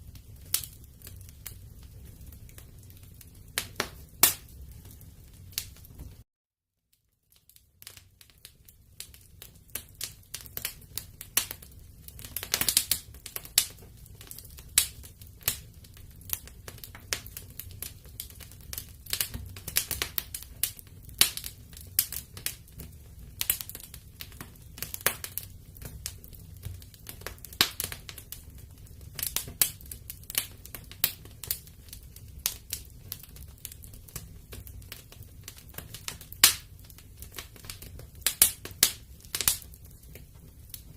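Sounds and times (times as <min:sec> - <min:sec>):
low rumble of flames: 0:00.0 - 0:06.2, 0:07.4 - 0:40.9
wood fire crackling and popping: 0:00.0 - 0:06.2, 0:07.0 - 0:40.9.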